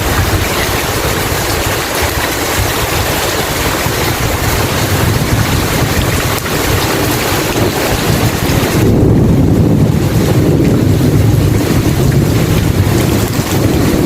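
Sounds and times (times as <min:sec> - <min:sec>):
low rumble of thunder: 0:00.0 - 0:14.0
rain hiss: 0:00.0 - 0:14.0.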